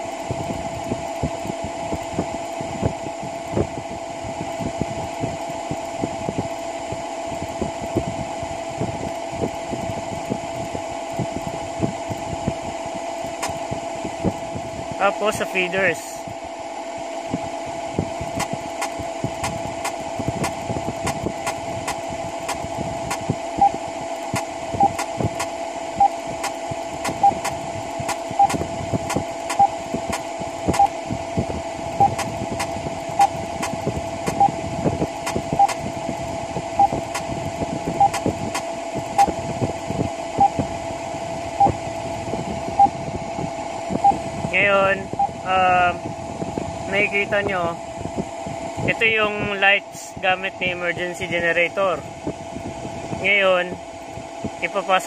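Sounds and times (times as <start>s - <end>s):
diesel generators humming: 0.0s - 55.0s.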